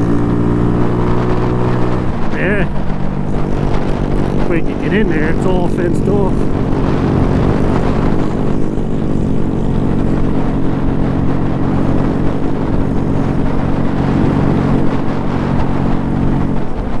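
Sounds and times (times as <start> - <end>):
minibike engine droning: 0.0 - 17.0.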